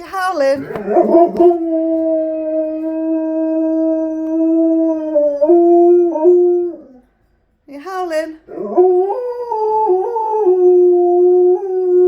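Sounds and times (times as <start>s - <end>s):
dog howling: 0.6s - 7.1s, 8.5s - 12.0s.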